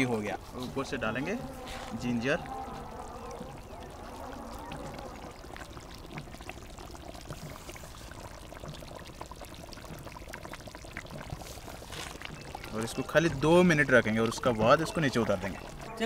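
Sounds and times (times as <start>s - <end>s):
curry bubbling and hissing: 0.0s - 16.0s.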